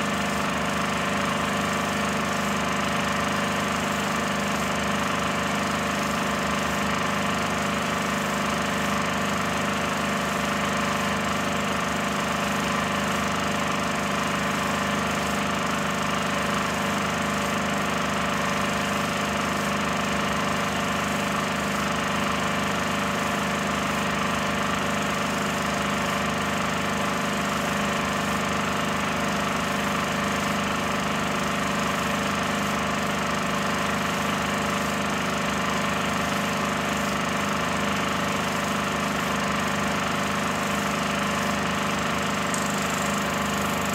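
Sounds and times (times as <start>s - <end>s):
film projector running: 0.0s - 43.9s.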